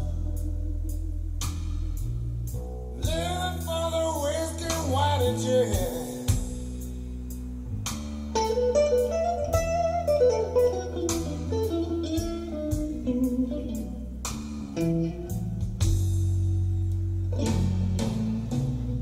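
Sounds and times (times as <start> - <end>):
guitar music over loudspeakers: 3.0 - 19.0.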